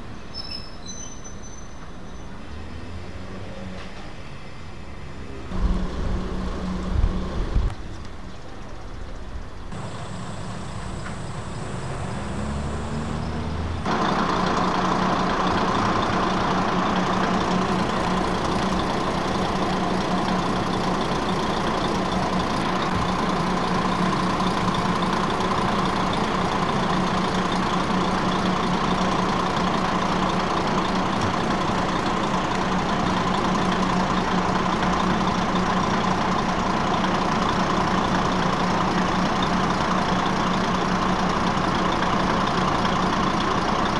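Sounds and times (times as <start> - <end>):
diesel engine idling: 4.7 - 43.9.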